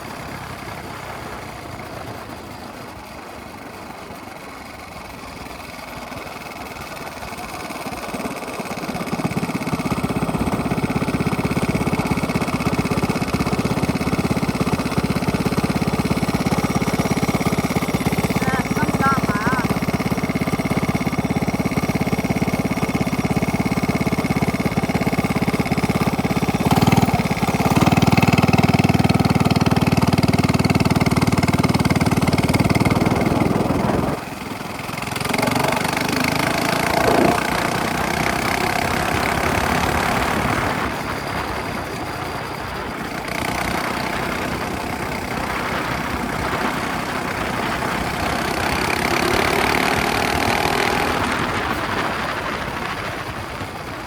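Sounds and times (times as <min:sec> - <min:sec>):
small engine through straight-pipe exhaust: 0:00.0 - 0:54.0.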